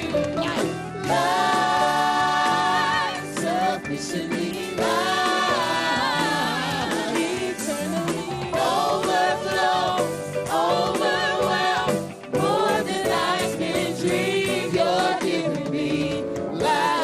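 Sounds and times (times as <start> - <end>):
band playing: 0.0 - 17.0
voices singing gospel: 1.0 - 17.0.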